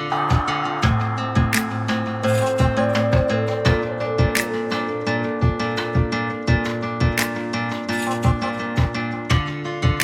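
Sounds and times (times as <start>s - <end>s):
guitar music over a beat: 0.0s - 10.0s.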